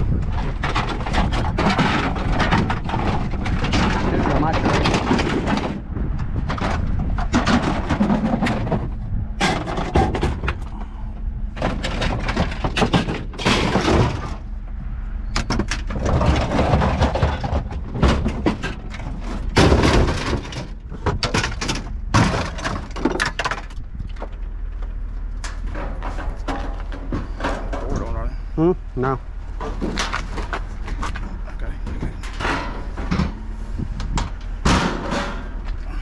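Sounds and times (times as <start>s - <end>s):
scrap plastic and metal clattering: 0.0s - 10.9s, 11.6s - 14.5s, 15.4s - 28.3s, 29.6s - 36.0s.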